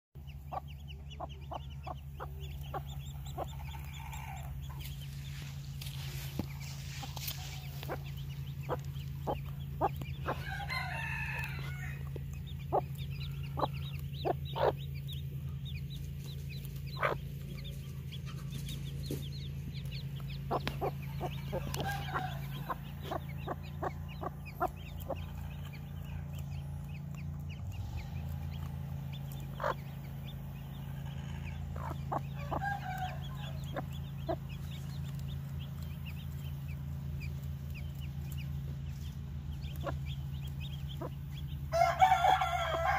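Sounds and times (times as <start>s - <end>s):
chicks peeping: 0.2s - 42.9s
hen clucking: 0.2s - 42.9s
steady low hum: 0.2s - 42.9s.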